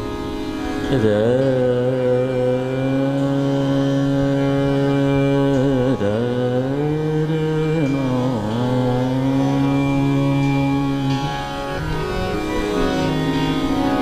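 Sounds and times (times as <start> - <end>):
harmonium: 0.0 - 14.0
man singing sustained notes: 0.0 - 14.0.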